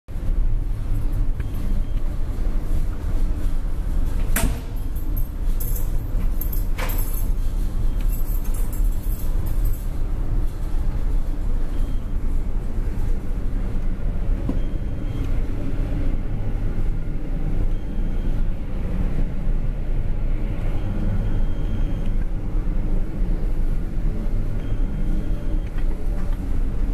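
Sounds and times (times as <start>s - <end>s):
ship engine rumble: 0.1s - 26.9s.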